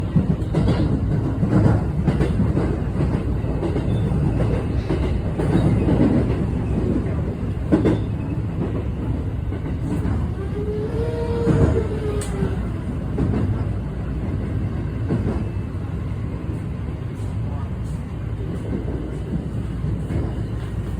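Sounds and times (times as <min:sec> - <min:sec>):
train interior rumble: 0:00.0 - 0:20.9.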